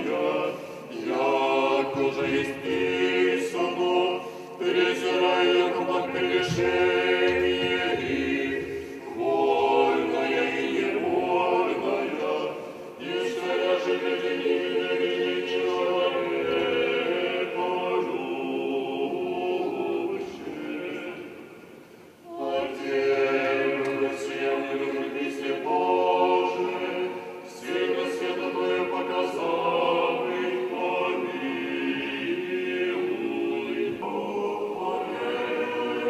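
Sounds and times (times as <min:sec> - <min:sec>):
a cappella choir chanting: 0:00.0 - 0:36.0.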